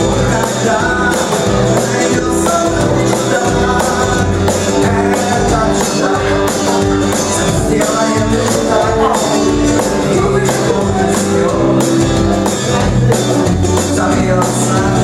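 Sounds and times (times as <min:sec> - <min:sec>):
bass guitar: 0:00.0 - 0:15.0
drums steady beat: 0:00.0 - 0:15.0
rock band playing: 0:00.0 - 0:15.0.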